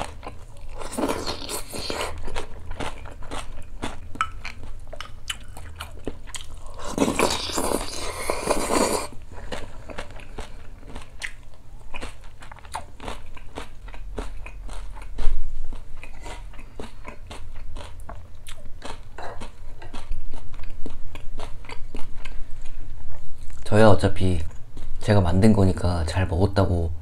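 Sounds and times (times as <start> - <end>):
chewing and crunching: 0.0 - 23.7.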